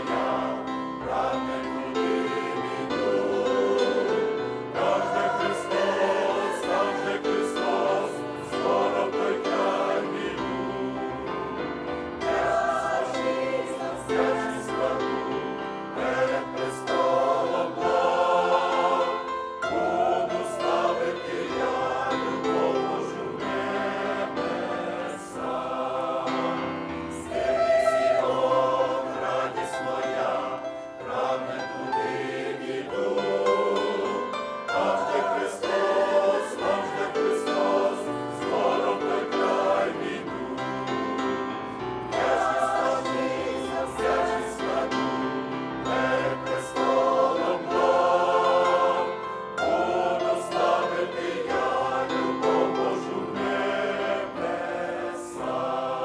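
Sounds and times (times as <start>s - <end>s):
mixed choir singing a hymn: 0.0s - 56.0s.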